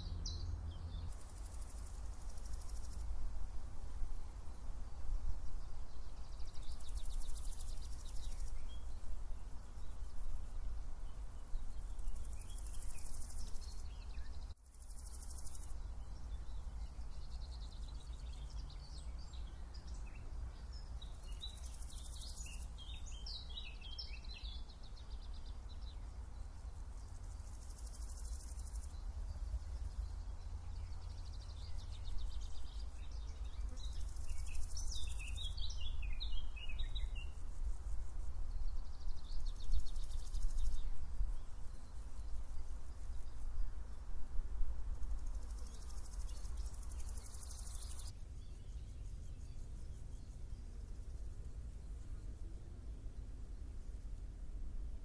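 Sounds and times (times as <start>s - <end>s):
small birds twittering: 0.0s - 3.1s, 3.8s - 43.6s, 44.9s - 52.5s
insects chirping: 0.0s - 54.9s.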